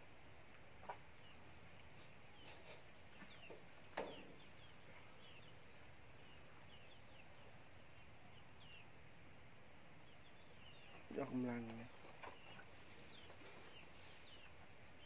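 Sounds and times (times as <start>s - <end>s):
chickens and birds chirping: 0.0s - 15.0s.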